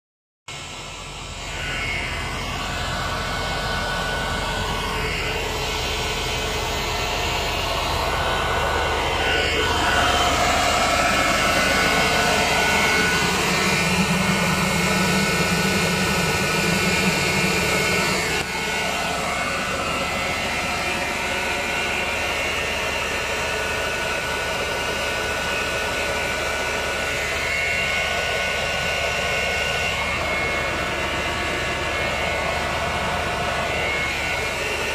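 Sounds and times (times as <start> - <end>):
air fan whine: 0.5 - 34.9
tractor engine hum: 0.5 - 34.9.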